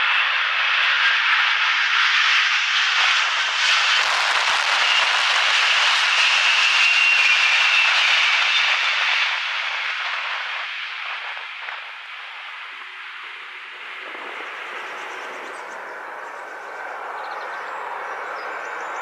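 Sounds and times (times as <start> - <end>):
jet engines passing overhead: 0.0 - 19.0.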